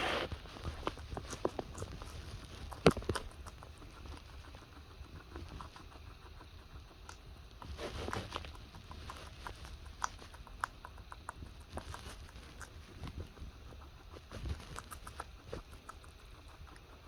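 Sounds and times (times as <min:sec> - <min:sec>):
lettuce crunching while chewed: 0:00.3 - 0:17.0.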